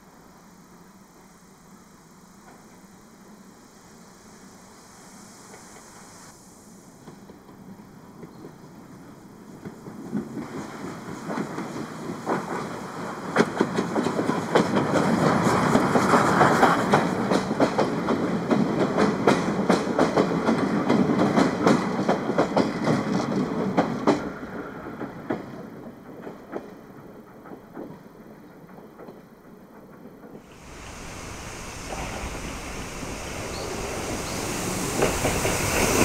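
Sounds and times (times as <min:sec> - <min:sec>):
steam train rolling past: 0:00.0 - 0:36.0.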